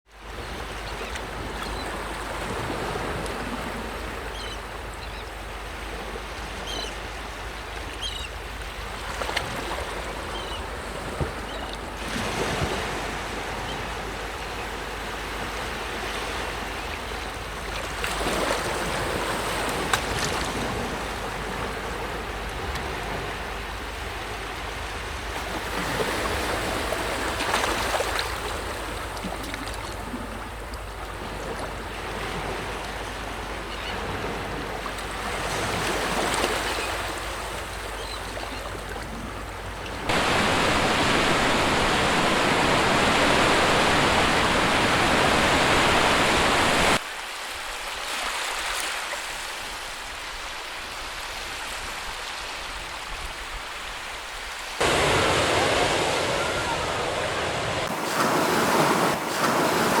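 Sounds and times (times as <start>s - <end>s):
sea waves breaking on shore: 0.1s - 60.0s.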